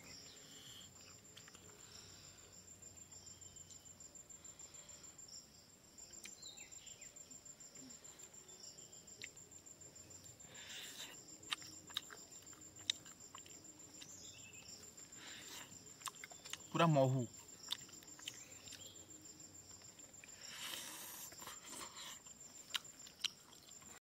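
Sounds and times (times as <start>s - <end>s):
cricket trilling: 0.0s - 24.0s.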